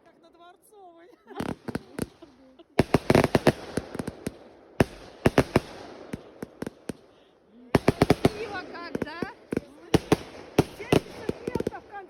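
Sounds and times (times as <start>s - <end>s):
fireworks bangs: 1.2s - 12.0s.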